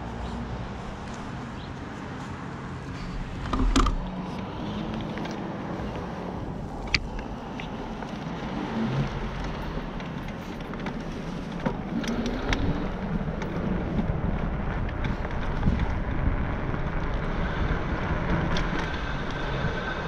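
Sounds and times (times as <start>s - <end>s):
rolling over rough asphalt: 0.0s - 20.0s
wind noise on microphone: 2.9s - 20.0s.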